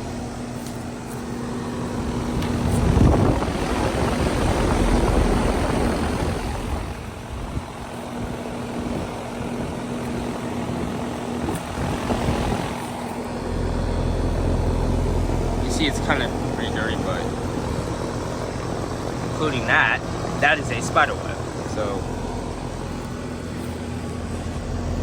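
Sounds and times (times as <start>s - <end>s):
compressor humming: 0.0s - 25.0s
condenser fan whooshing: 0.0s - 25.0s.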